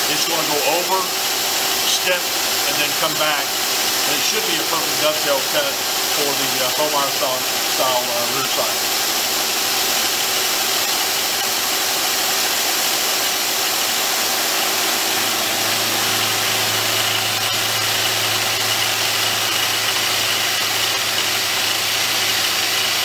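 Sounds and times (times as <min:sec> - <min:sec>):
milling machine cutting metal: 0:00.0 - 0:23.0.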